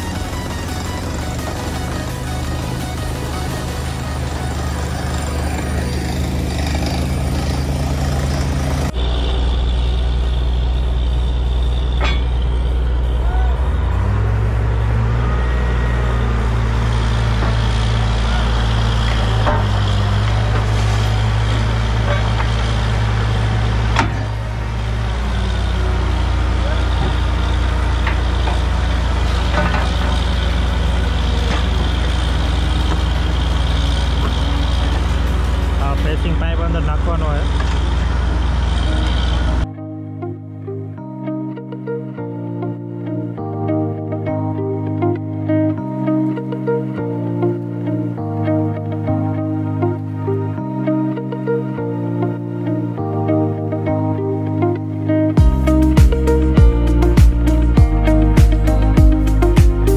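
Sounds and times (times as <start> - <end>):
drilling rig engines running: 0.0 - 41.2, 41.9 - 59.9
deep engine drone: 0.0 - 59.9
high whine: 0.0 - 59.9.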